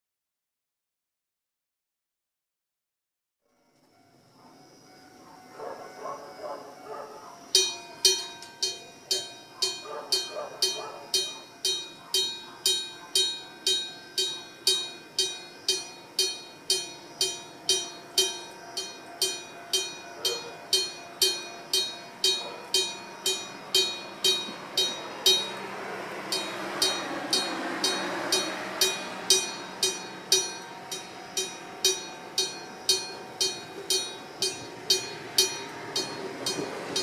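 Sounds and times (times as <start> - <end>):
approaching train: 3.6 - 37.0
level crossing bell clanging: 5.0 - 37.0.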